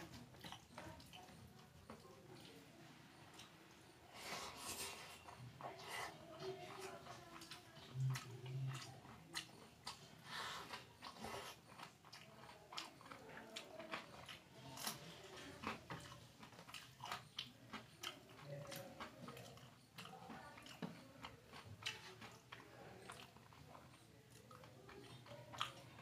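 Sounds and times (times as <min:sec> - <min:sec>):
person chewing crunchy food: 0:00.0 - 0:02.6, 0:03.2 - 0:26.0.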